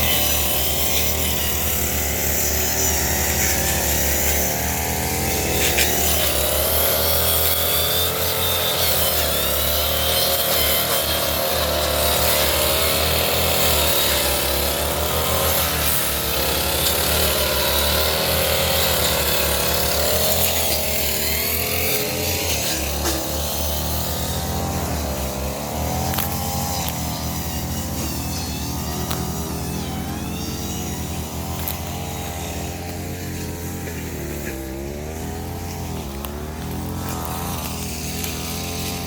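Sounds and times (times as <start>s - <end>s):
brush cutter engine running: 0.0s - 39.0s.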